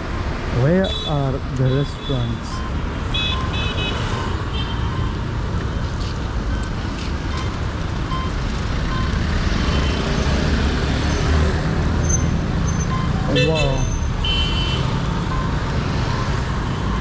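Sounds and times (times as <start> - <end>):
traffic engine rumble and road noise: 0.0 - 17.0.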